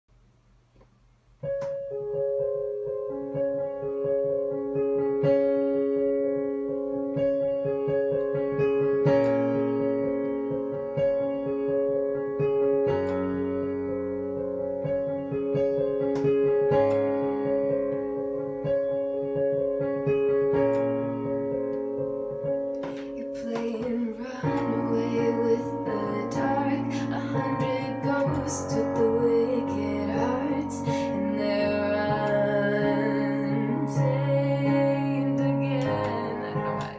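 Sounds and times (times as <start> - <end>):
digital piano chords and bass: 0.5 - 36.9.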